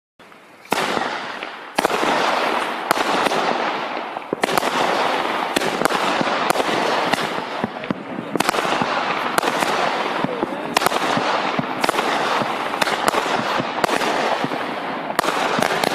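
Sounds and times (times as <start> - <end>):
firework reports: 0.2 - 15.9
firework crackling hiss: 0.3 - 15.9.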